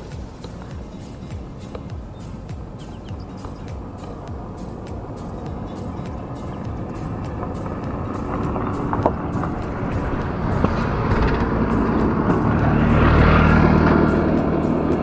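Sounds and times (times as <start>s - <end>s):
low hum: 0.0s - 15.0s
passing engine rumble: 0.0s - 15.0s.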